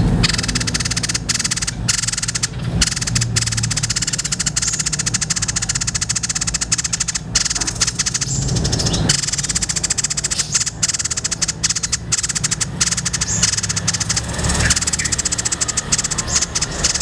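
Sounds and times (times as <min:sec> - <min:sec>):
steady low hum: 0:00.0 - 0:17.0
bird rattling chatter: 0:00.1 - 0:17.0.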